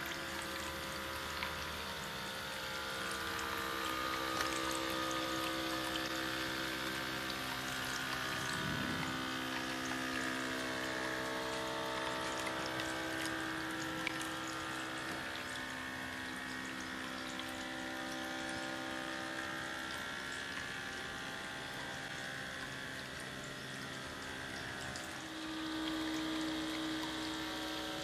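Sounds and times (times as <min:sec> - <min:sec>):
electric water pump hum: 0:00.0 - 0:28.0
water trickling into basin: 0:00.0 - 0:28.0.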